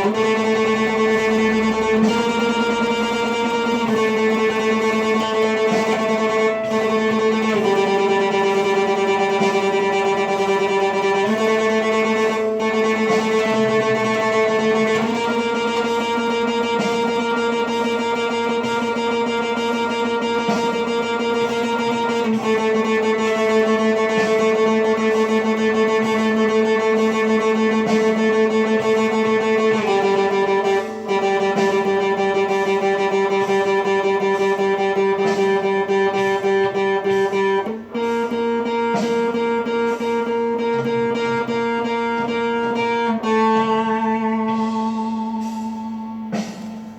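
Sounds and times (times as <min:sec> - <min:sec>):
plucked string instrument: 0:00.0 - 0:46.9.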